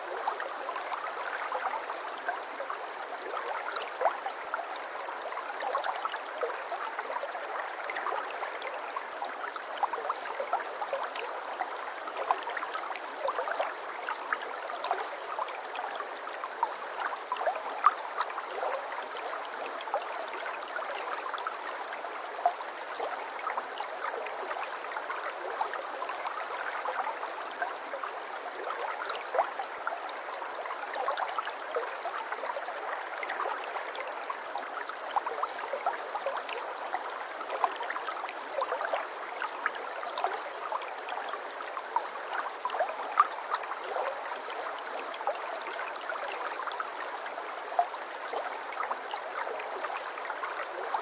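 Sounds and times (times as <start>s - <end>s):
brook water trickling over stones: 0.0s - 51.0s.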